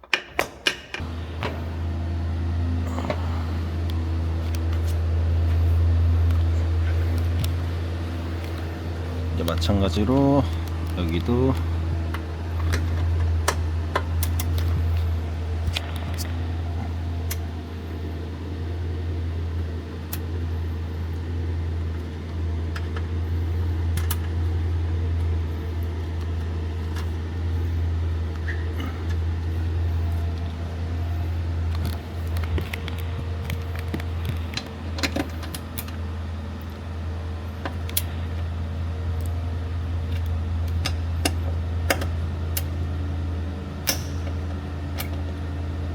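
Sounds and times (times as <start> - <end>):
steady low hum: 0.4 - 45.9.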